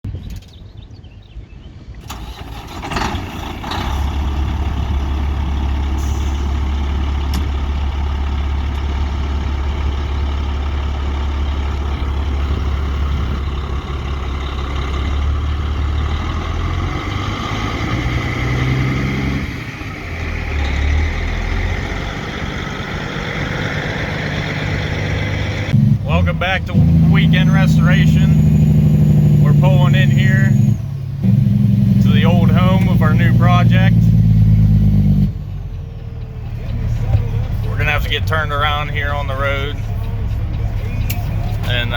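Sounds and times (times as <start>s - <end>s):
truck engine droning: 2.0s - 41.9s.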